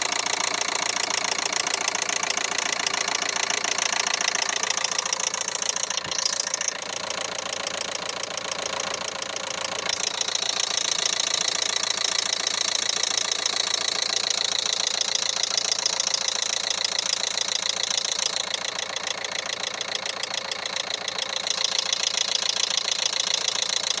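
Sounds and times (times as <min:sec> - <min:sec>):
diesel engine running with knock: 0:00.0 - 0:24.0.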